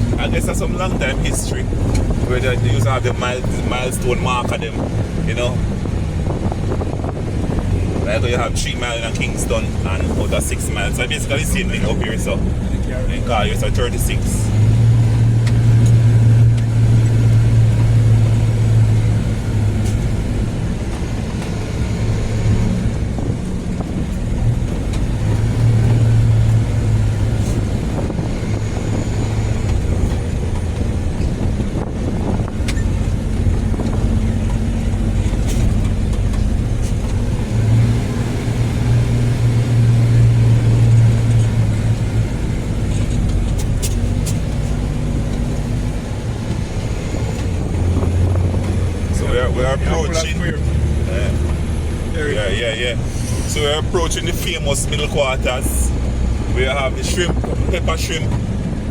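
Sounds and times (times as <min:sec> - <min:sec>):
car engine drone: 0:00.0 - 0:58.9
road and tyre noise: 0:00.0 - 0:58.9.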